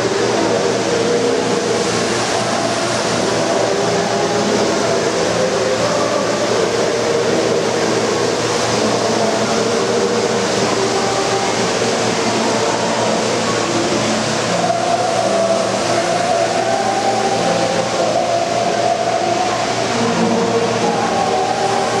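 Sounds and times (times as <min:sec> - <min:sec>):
model trains humming and rumbling: 0:00.0 - 0:22.0.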